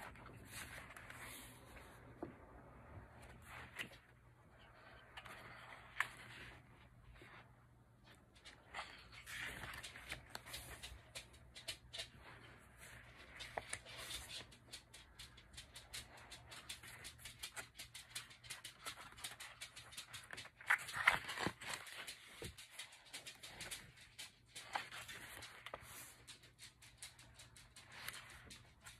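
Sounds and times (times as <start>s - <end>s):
pages turning and rustling: 0.0s - 28.9s.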